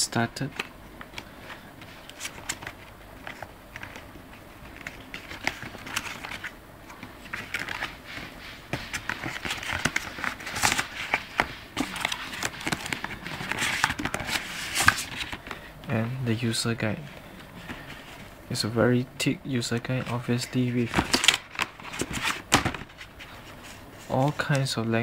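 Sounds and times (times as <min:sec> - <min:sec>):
cardboard and paper rustling: 0:00.4 - 0:16.1, 0:19.7 - 0:25.0.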